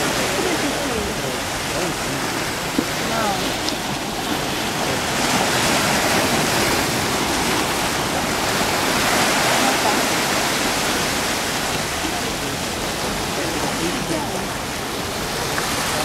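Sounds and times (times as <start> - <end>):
sea surf washing ashore: 0.0 - 16.0.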